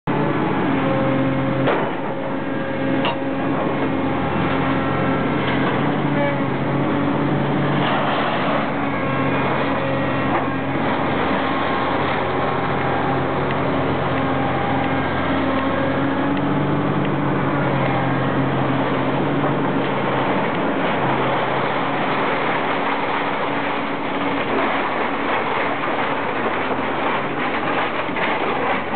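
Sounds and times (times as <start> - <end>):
excavator diesel engine running: 0.0 - 28.9.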